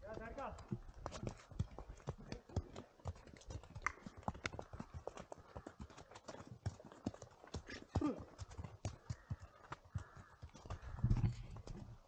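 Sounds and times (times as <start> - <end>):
horse hooves on muddy trail: 0.0 - 12.0.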